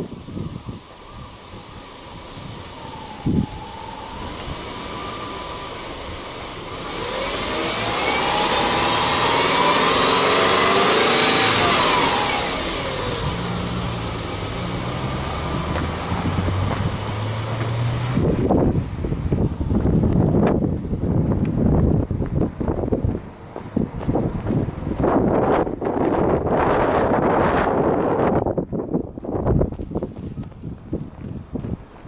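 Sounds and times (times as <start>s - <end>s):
car engine revving and idling: 0.0s - 28.3s.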